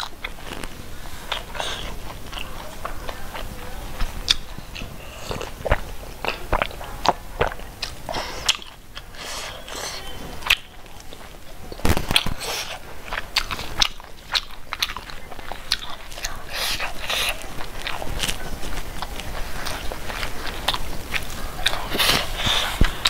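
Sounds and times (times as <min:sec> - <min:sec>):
mouth clicks: 0:00.0 - 0:23.0
person chewing food: 0:00.0 - 0:23.0.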